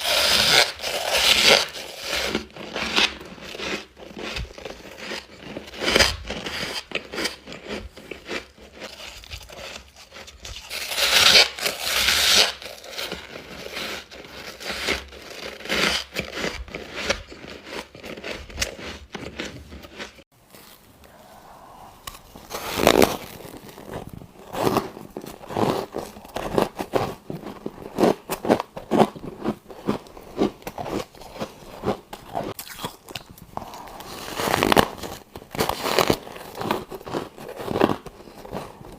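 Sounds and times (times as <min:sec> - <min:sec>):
chewing ice crunches: 0:00.0 - 0:12.0, 0:12.6 - 0:21.2, 0:22.0 - 0:38.9.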